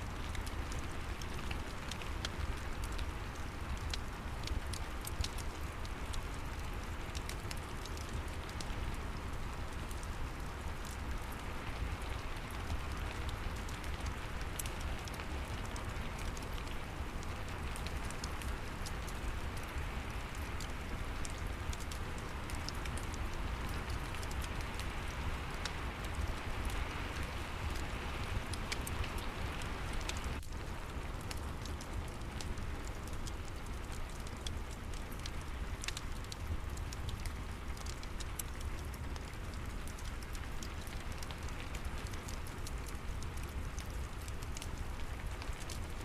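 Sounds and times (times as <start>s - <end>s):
fireplace crackling and popping: 0.0s - 46.0s
rain hiss: 0.0s - 46.0s.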